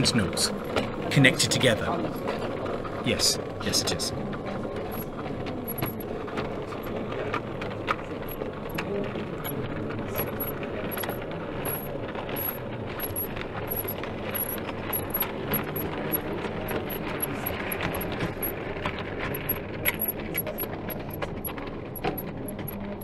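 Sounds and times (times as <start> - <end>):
model train rumbling: 0.0 - 23.0
wheels clicking over rail joints: 0.0 - 23.0.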